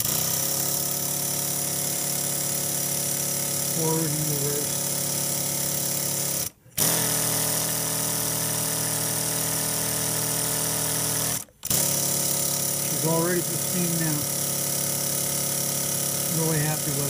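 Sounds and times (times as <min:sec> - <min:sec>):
model steam engine whirring: 0:00.1 - 0:17.0.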